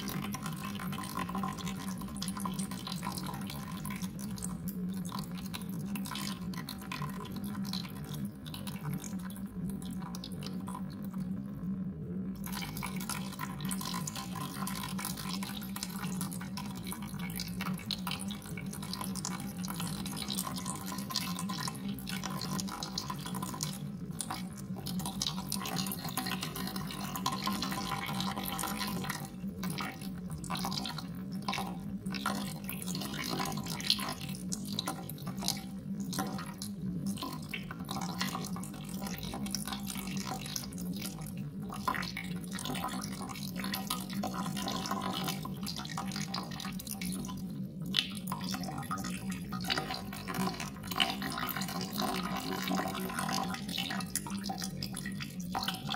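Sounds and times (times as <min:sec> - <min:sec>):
water dripping and trickling: 0:00.0 - 0:11.2, 0:12.4 - 0:55.9
steady low hum: 0:00.0 - 0:55.9.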